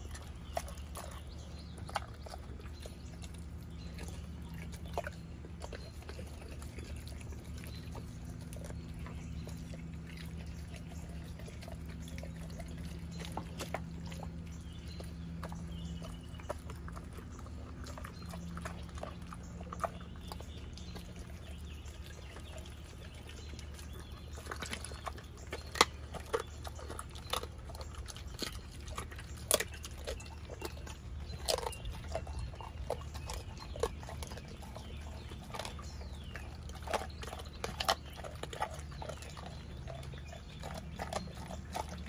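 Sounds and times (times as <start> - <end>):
dog crunching bones: 0.0 - 42.0
steady low hum: 0.0 - 42.0.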